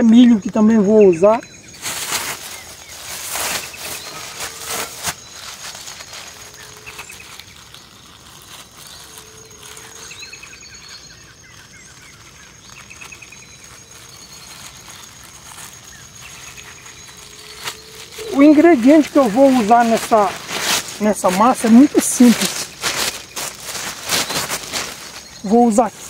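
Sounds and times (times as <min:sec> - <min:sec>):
birds trilling and chirping: 0:00.0 - 0:26.0
handling knocks and rustles: 0:01.7 - 0:10.3, 0:12.9 - 0:26.0.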